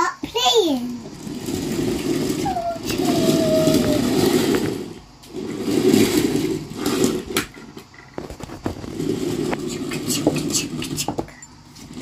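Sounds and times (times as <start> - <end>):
toy train rolling on wooden floor: 0.0 - 12.0.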